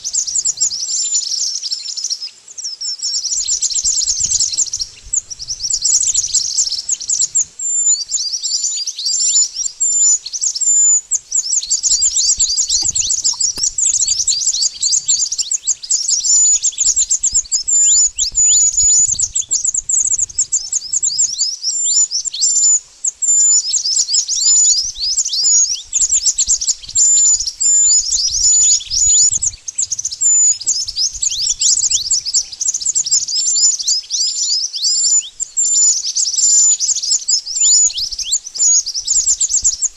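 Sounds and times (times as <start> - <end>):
bird singing high chirps: 0.0 - 39.9.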